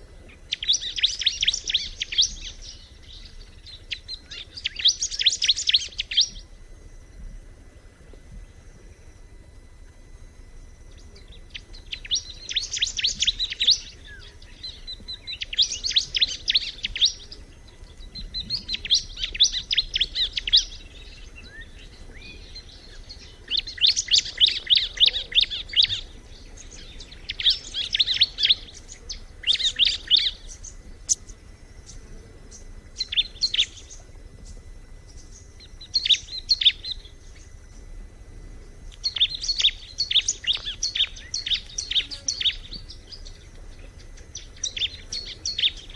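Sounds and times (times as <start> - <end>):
bird chattering song: 0.3 - 6.4, 10.9 - 37.6, 38.9 - 45.9.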